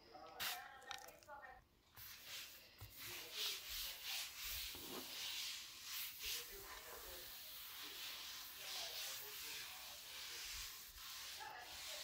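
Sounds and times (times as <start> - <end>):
cloth wiping wet countertop: 2.0 - 12.0.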